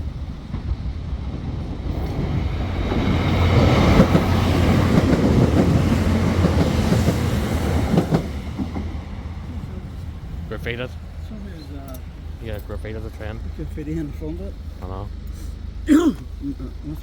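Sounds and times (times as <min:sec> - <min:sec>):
train wheels clattering on rails: 0:00.0 - 0:15.3.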